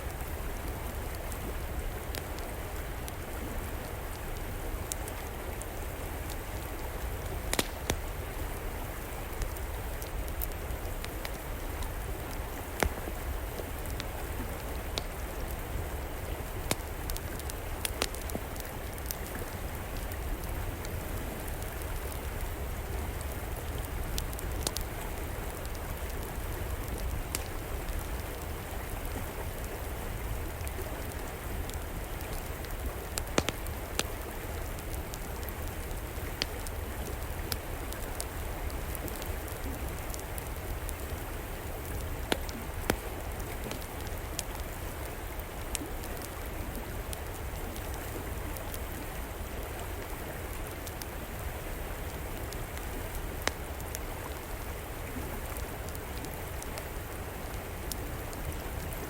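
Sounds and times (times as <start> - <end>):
river water flowing: 0.0 - 59.0
wood fire crackling and popping: 0.1 - 49.0, 50.4 - 59.0.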